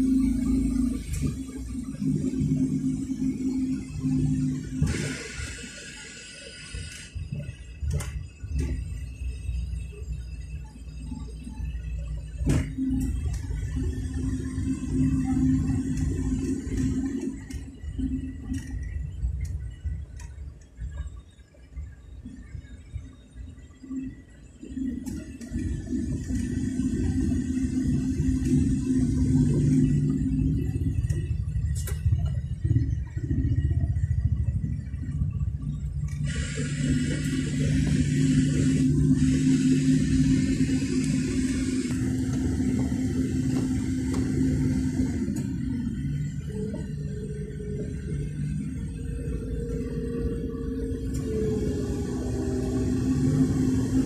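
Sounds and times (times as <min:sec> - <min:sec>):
vehicle road rumble: 0:00.0 - 0:54.0.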